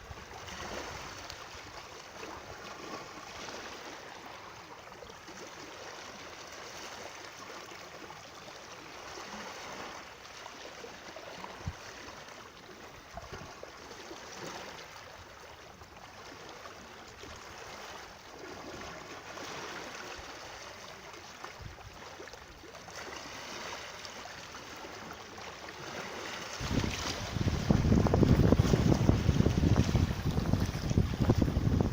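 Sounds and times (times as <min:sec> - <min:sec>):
stream flowing: 0:00.0 - 0:31.9.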